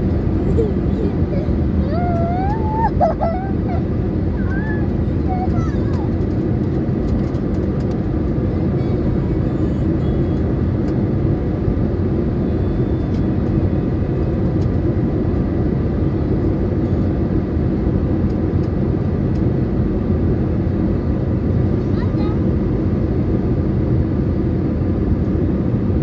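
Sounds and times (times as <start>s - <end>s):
aircraft cabin engine roar: 0.0s - 26.0s.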